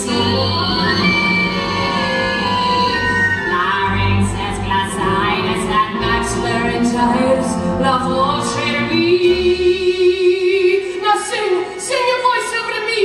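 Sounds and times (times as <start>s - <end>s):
orchestral accompaniment: 0.0s - 11.0s
woman singing wordless notes: 0.0s - 13.0s.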